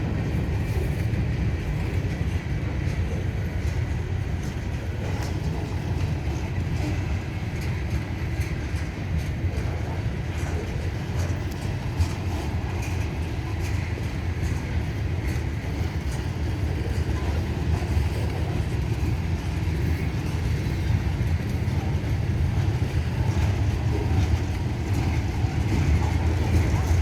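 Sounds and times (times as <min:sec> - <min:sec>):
freight train wheels rumbling: 0:00.0 - 0:27.0
light clicks of train: 0:00.0 - 0:27.0.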